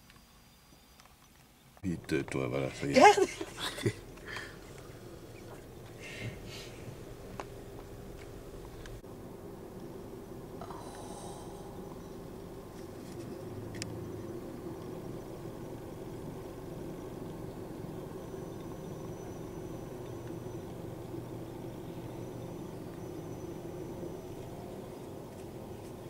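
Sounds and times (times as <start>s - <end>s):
vehicle engine idling: 1.7s - 26.0s.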